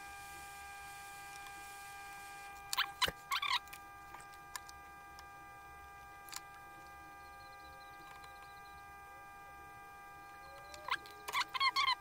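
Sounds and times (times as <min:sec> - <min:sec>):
faint electrical whine and hum: 0:00.0 - 0:12.0.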